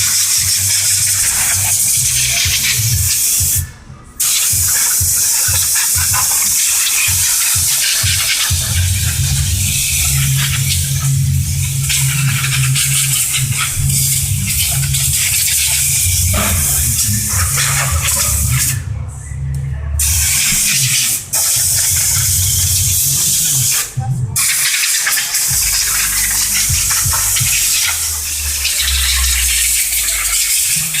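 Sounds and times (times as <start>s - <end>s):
high-pressure water jet spraying: 0.0s - 18.8s, 20.0s - 31.0s
low pump rumble: 0.0s - 30.9s.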